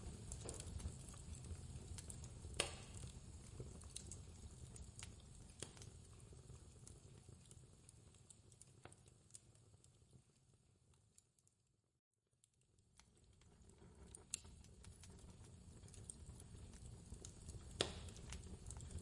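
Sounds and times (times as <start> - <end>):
low fire rumble: 0.0 - 10.3, 13.0 - 19.0
fire popping and snapping: 0.0 - 11.5, 12.4 - 19.0.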